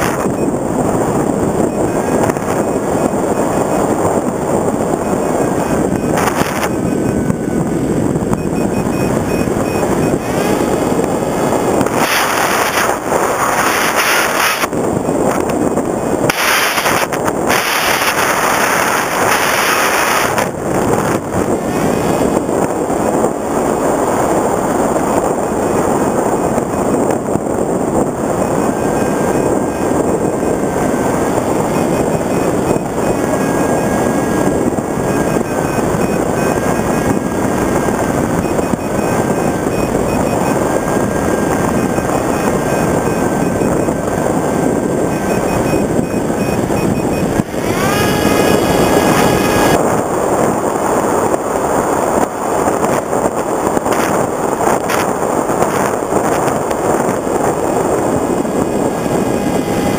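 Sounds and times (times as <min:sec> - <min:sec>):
electric motor and propeller whine: 0:00.0 - 0:59.9
wind rushing over camera: 0:00.0 - 0:59.9.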